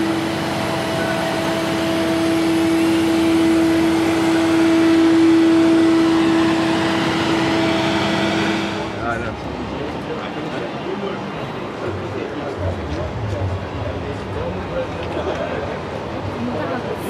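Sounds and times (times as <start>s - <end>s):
machine humming: 0.0s - 10.0s, 11.3s - 16.4s
even rushing noise: 0.0s - 17.0s.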